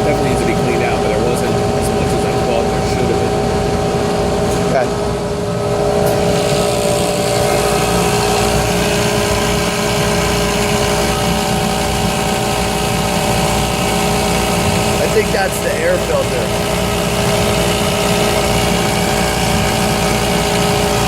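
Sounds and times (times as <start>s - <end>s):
air compressor humming: 0.0s - 21.0s.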